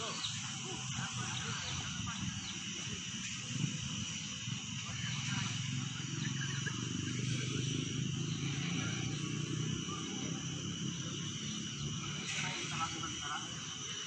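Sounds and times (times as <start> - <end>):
low rumbling noise: 0.1 - 13.9.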